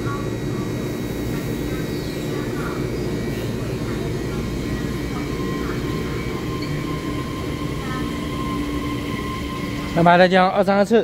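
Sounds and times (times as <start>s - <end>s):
train rumbling: 1.8s - 10.8s.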